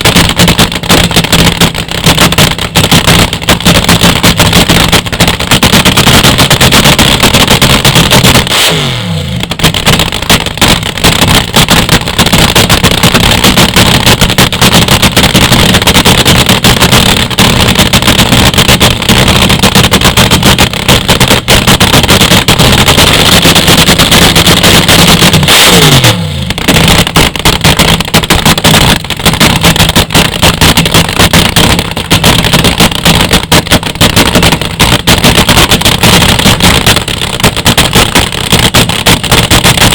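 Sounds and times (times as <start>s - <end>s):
race car engine at high idle: 0.0s - 39.9s.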